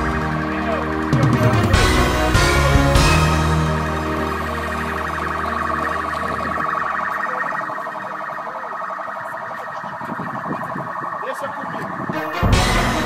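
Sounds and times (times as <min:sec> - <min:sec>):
electronic siren warbling: 0:00.0 - 0:13.0.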